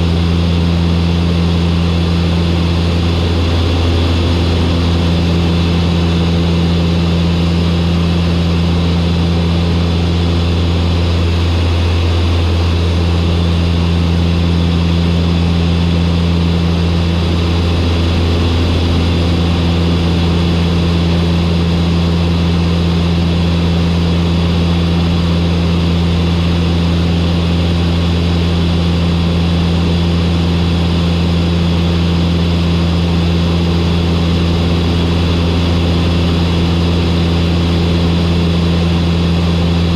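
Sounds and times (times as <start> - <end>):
turboprop aircraft engines: 0.0 - 39.9.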